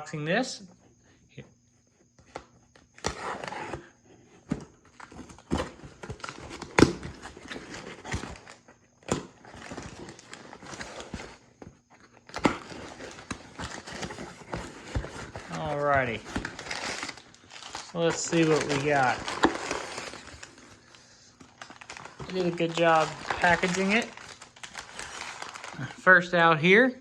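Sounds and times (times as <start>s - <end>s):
cardboard scraping and rustling: 3.0s - 25.7s.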